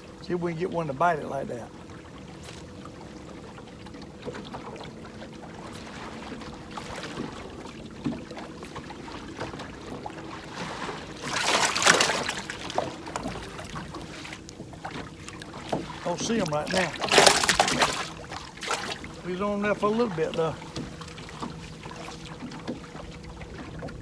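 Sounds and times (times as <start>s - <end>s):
water lapping against boat: 0.0s - 24.0s.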